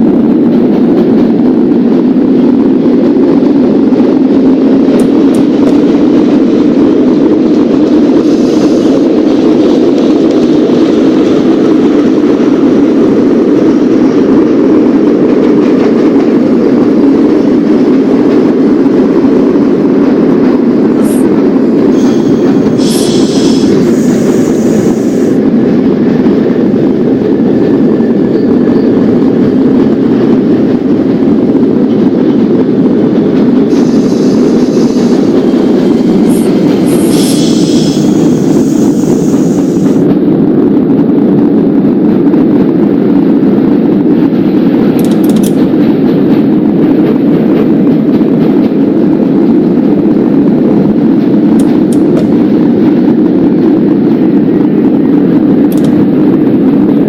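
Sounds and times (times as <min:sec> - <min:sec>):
subway train rumbling on rails: 0:00.0 - 0:57.0.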